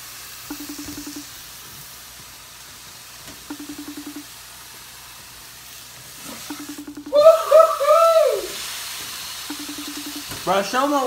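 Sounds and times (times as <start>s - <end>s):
meat sizzling in a frying pan: 0.0s - 0.5s, 1.2s - 3.5s, 4.3s - 9.6s, 10.2s - 11.0s.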